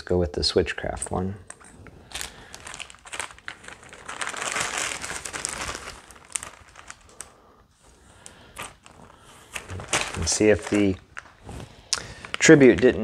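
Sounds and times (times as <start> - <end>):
plastic bag crinkling: 1.5 - 13.0.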